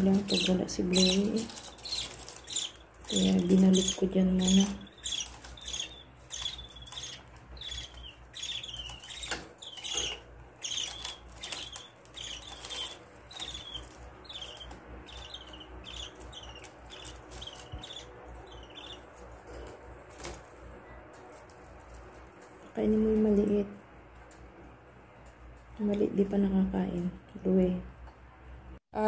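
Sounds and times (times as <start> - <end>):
bird chicks chirping: 0.0 - 24.4.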